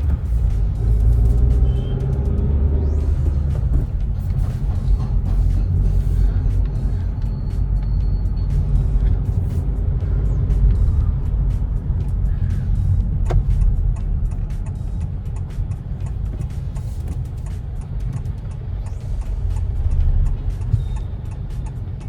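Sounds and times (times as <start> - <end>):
road and engine rumble: 0.0 - 22.0.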